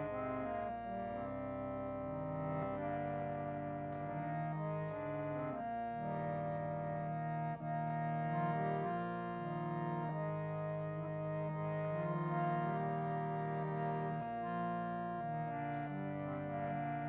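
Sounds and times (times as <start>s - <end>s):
harmonium chords: 0.0s - 17.0s.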